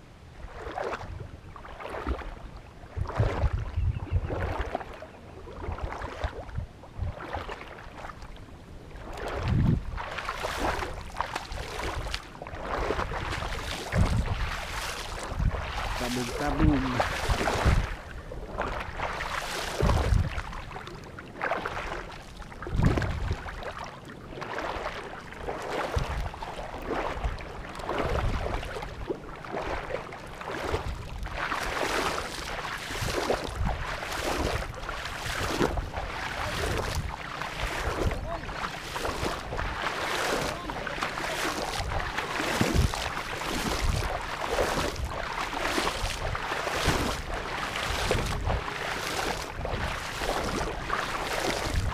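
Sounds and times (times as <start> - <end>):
legs wading through water: 0.0 - 51.9.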